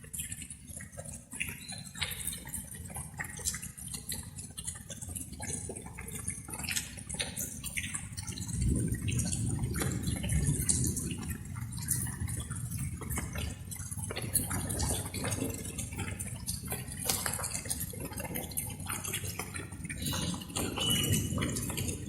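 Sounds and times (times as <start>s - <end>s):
raindrops dripping: 0.0s - 22.0s.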